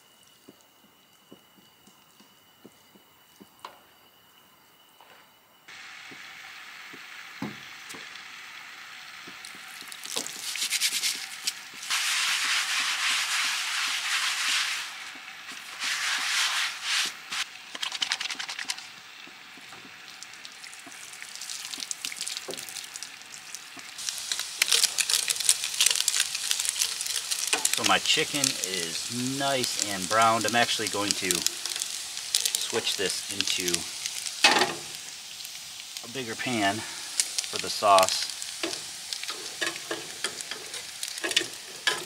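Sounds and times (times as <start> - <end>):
chicken sizzling in a pan: 5.7 - 42.0.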